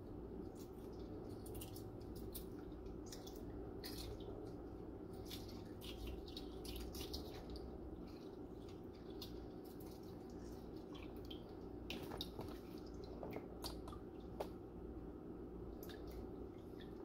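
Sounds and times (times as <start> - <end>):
light wet squishing: 0.0 - 15.0, 15.6 - 17.0.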